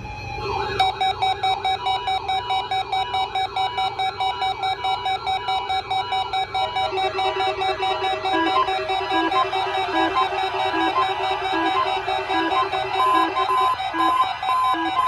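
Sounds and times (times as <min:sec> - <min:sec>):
steady alarm tone: 0:00.6 - 0:15.0
rapid pulsed beeping: 0:00.8 - 0:15.0
repeating warble: 0:00.8 - 0:15.0.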